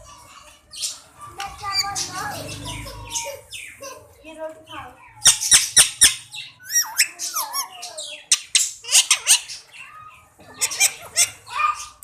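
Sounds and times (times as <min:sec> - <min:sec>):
parrot squawking and chattering: 0:00.0 - 0:04.2, 0:05.0 - 0:12.0.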